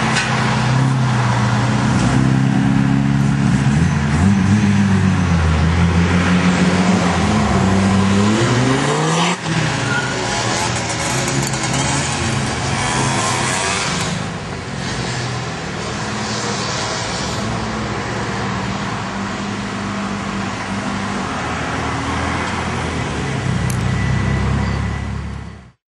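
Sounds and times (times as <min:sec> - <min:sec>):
road noise: 0:00.0 - 0:25.8.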